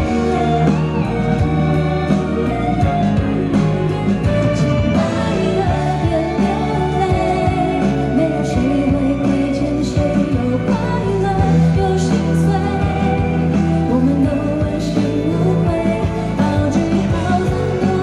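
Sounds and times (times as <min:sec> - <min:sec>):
guitar: 0:00.0 - 0:18.0
person singing: 0:00.0 - 0:18.0.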